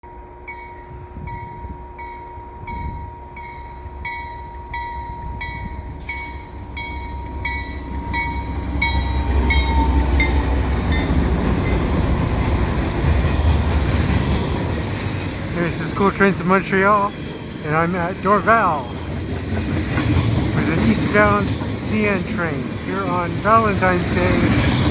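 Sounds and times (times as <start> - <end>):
freight train rumble: 0.1 - 24.9.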